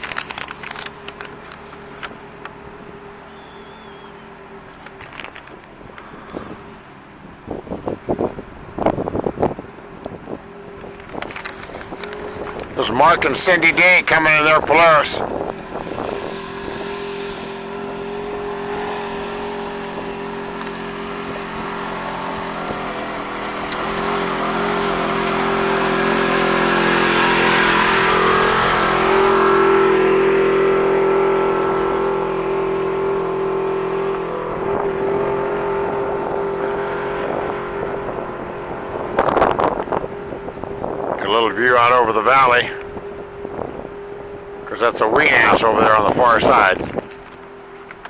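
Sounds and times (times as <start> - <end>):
utility vehicle engine running: 0.0 - 48.0.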